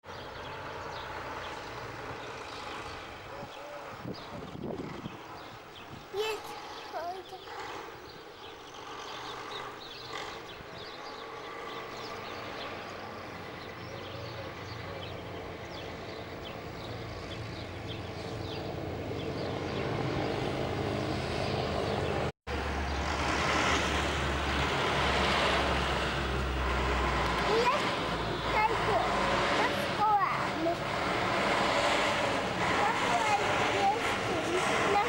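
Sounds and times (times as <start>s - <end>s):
tractor diesel engine driving off: 0.1s - 5.5s, 6.5s - 35.0s.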